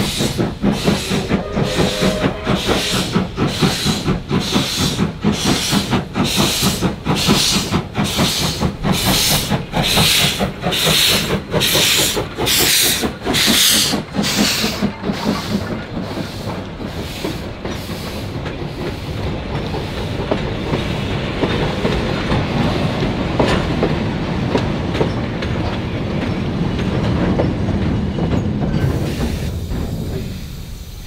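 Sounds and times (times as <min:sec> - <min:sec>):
hissing steam: 0:00.0 - 0:24.9, 0:28.6 - 0:31.0
steam locomotive exhaust chuffs: 0:00.0 - 0:25.2, 0:26.1 - 0:31.0.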